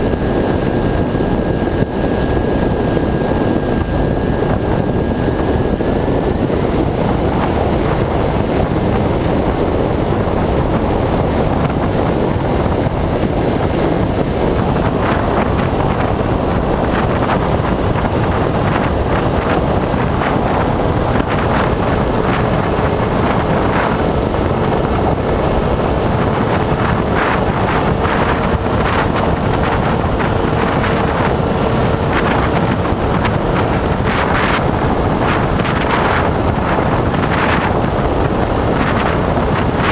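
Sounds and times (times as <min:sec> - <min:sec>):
electric motor and propeller: 0:00.0 - 0:39.9
wind rushing over camera: 0:00.0 - 0:39.9.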